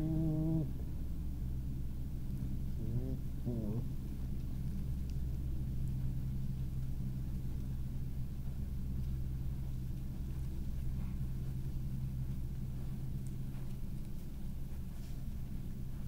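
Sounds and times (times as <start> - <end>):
low droning hum: 0.0 - 16.0
faint ticks: 2.8 - 16.0.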